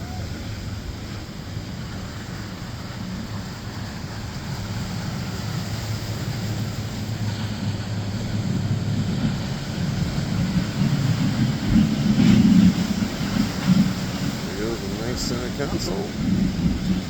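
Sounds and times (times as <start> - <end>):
boat engines passing by: 0.0 - 17.0.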